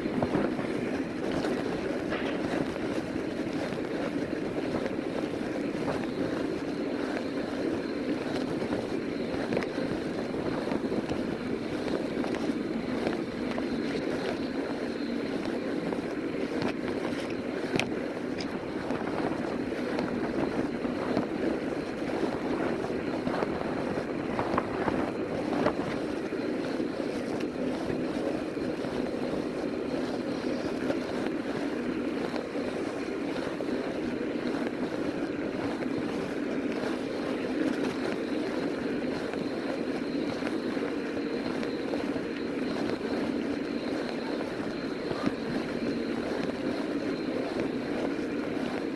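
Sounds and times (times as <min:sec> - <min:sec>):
fat tires rolling: 0:00.0 - 0:48.9.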